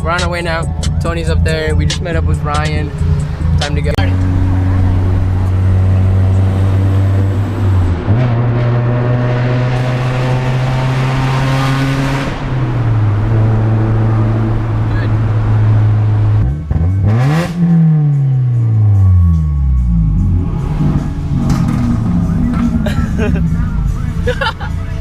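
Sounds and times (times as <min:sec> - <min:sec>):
car engine from inside: 0:00.7 - 0:25.0.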